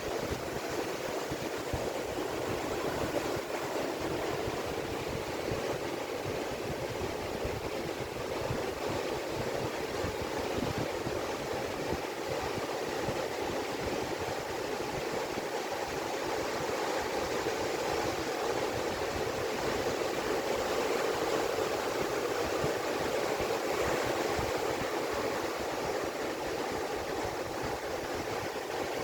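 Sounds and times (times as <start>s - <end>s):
waves breaking on beach: 0.0s - 29.0s.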